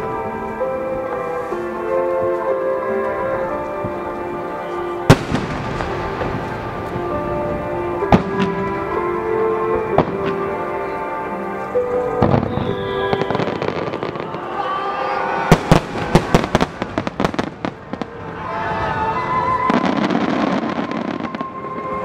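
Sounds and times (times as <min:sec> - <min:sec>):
fireworks bursting: 0:00.0 - 0:22.0
music: 0:00.0 - 0:22.0.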